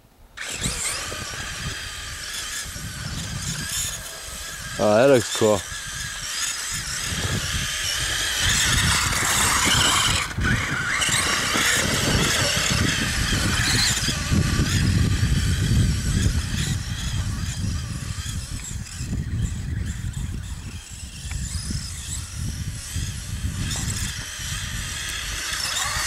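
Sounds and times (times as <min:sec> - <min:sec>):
rc truck electric motors whining: 0:00.4 - 0:26.0
tyres churning through snow: 0:00.4 - 0:26.0.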